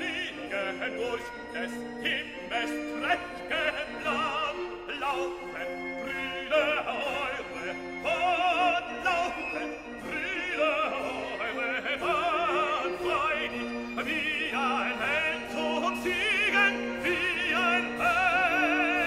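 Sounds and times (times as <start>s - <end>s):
operatic singing: 0.0s - 19.0s
orchestral accompaniment: 0.0s - 19.0s.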